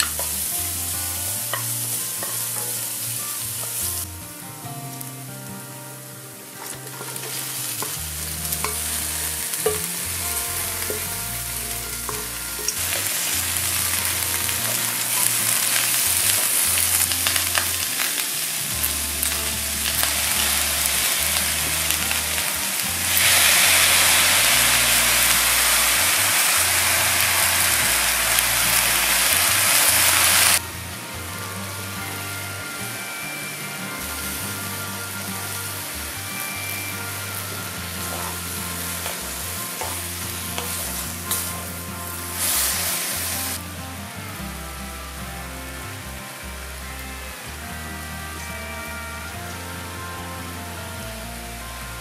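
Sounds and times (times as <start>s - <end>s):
food sizzling in a wok: 0.0s - 43.6s.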